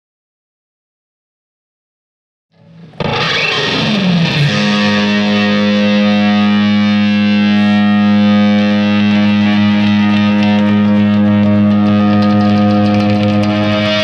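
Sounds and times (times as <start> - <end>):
distorted electric guitar: 2.5 - 14.0.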